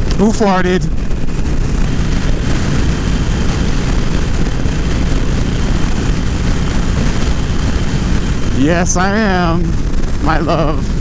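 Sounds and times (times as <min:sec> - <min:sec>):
motorcycle engine drone: 0:00.0 - 0:11.0
wind noise on microphone: 0:00.0 - 0:11.0.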